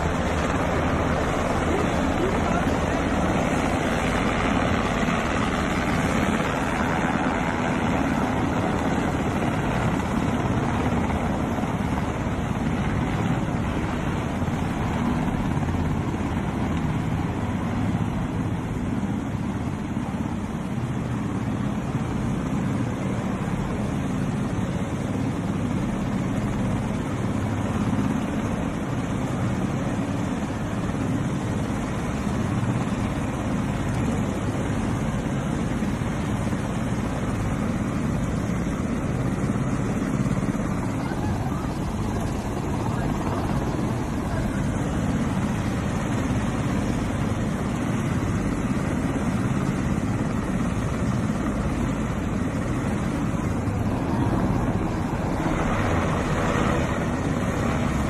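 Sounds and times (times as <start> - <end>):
helicopters flying low overhead: 0.0 - 58.0.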